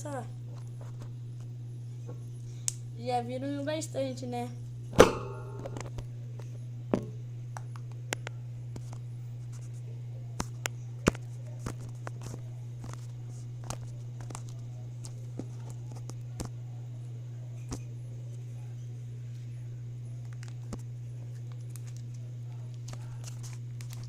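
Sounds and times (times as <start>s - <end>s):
low hum: 0.0s - 23.2s.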